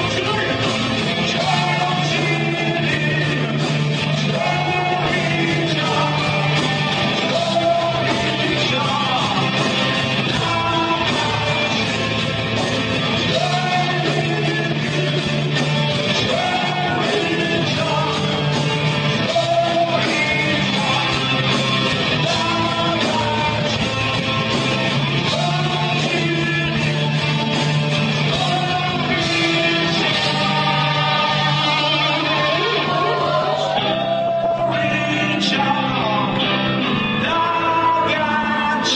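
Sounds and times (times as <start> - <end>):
live rock band playing: 0.0 - 38.9
singer belting long notes: 0.0 - 38.9.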